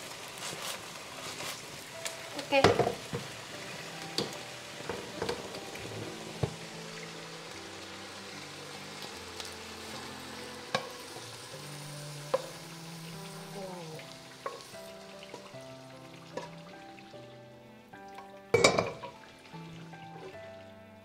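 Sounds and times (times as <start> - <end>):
vegetables sizzling in a pan: 0.0 - 21.0
soft background music: 0.1 - 21.0.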